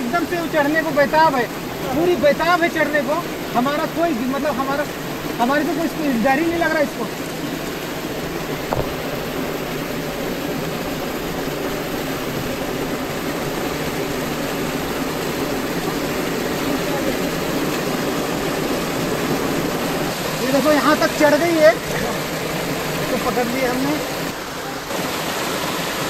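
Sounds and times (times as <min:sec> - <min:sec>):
water rushing down rocks: 0:00.0 - 0:26.0.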